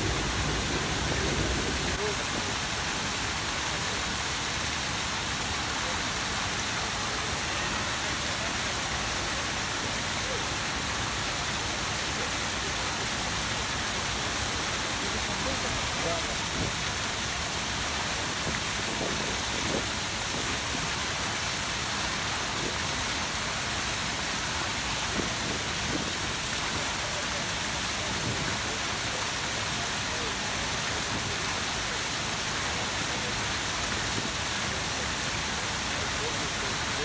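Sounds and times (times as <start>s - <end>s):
fountain water splashing: 0.0s - 37.0s.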